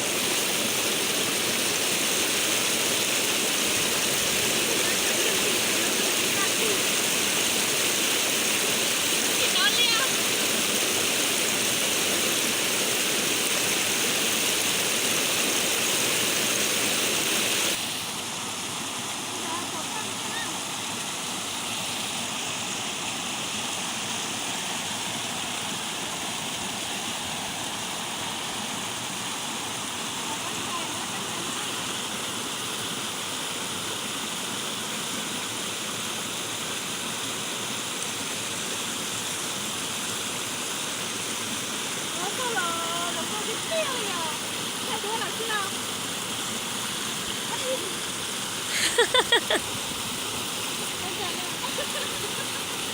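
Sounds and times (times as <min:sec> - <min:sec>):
running water rushing: 0:00.0 - 0:52.9.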